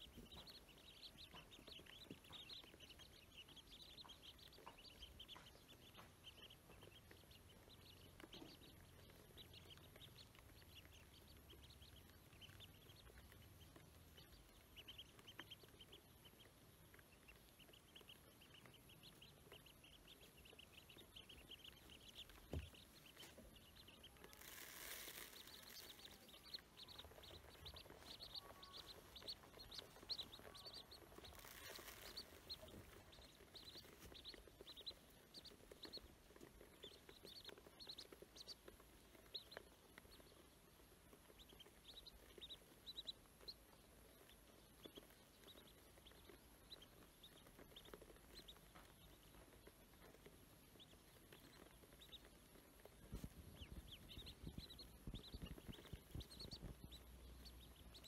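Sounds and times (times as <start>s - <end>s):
ducklings peeping: 0.0s - 58.0s.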